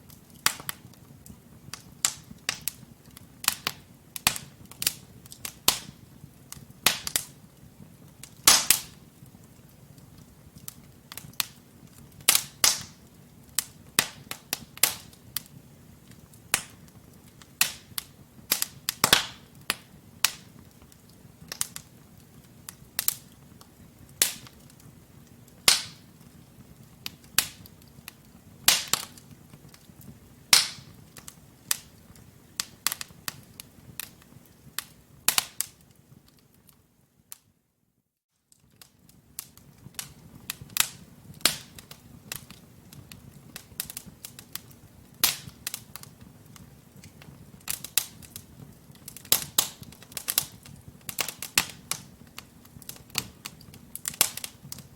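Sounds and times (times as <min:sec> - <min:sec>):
logs crackling and popping: 0:00.0 - 0:37.5, 0:38.5 - 0:54.9.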